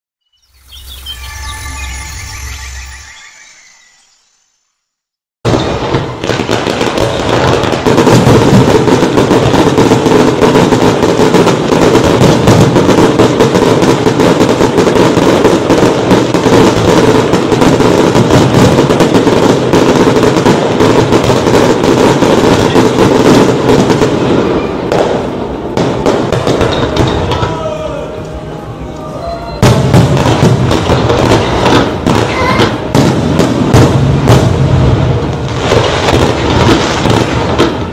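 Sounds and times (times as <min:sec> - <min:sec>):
fireworks bangs and crackles: 0:05.4 - 0:37.9.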